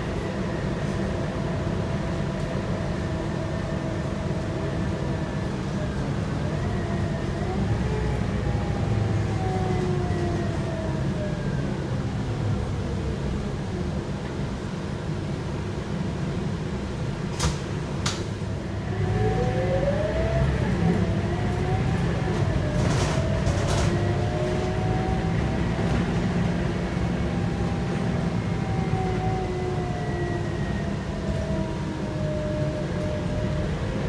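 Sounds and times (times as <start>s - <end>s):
bus diesel engine running: 0.0s - 34.0s
engine whine rising in pitch: 4.8s - 16.9s, 18.7s - 34.0s.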